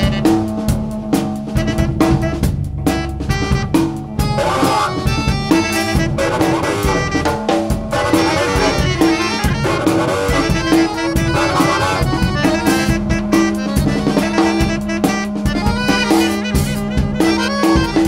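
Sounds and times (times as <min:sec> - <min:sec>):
accordion notes: 0:00.0 - 0:18.0
jazz band playing: 0:00.0 - 0:18.0
saxophone notes: 0:00.0 - 0:18.0
steady drum beat: 0:00.0 - 0:18.0.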